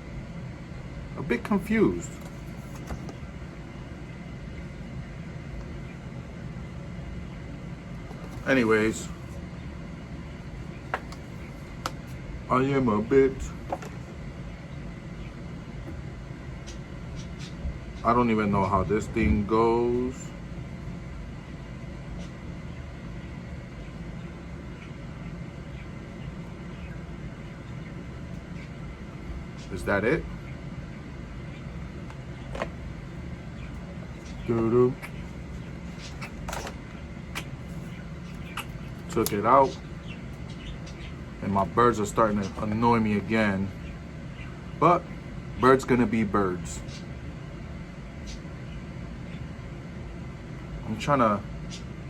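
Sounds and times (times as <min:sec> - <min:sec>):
air conditioning hum: 0:00.0 - 0:52.0.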